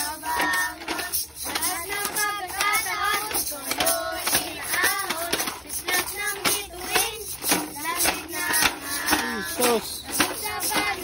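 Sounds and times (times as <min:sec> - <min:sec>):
children singing a carol: 0:00.0 - 0:11.0.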